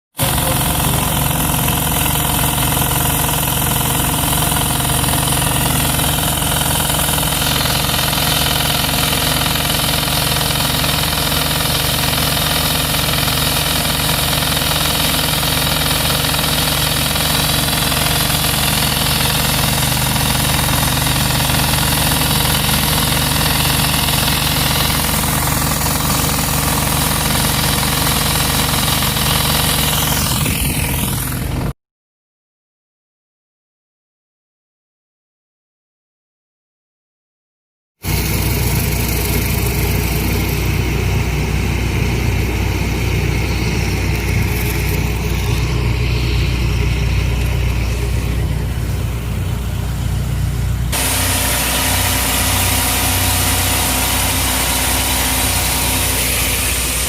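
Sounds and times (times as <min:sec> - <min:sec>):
water spraying on concrete: 0:00.2 - 0:31.4, 0:42.4 - 0:57.0
pressure washer engine hum: 0:00.2 - 0:31.7, 0:38.0 - 0:57.0.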